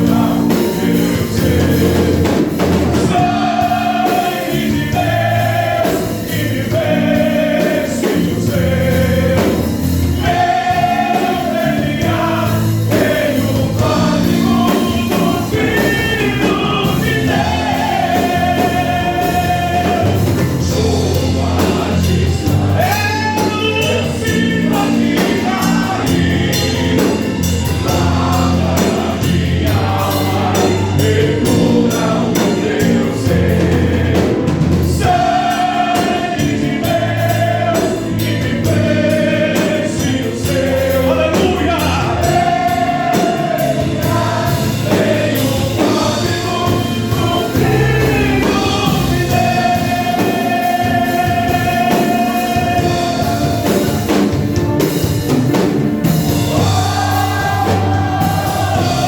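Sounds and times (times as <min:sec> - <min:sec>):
band with steady bass line: 0:00.0 - 0:59.0
group of voices singing: 0:00.0 - 0:59.0.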